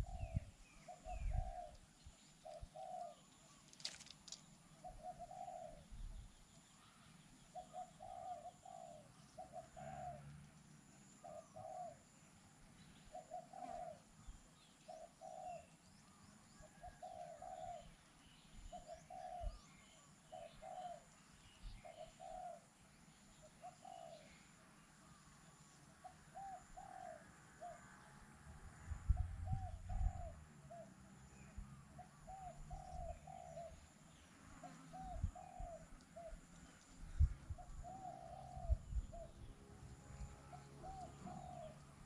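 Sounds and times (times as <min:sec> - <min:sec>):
dove cooing faintly: 0:00.0 - 0:12.2, 0:12.9 - 0:18.0, 0:18.6 - 0:22.7, 0:23.3 - 0:42.0
small birds chirping faintly: 0:00.0 - 0:42.0.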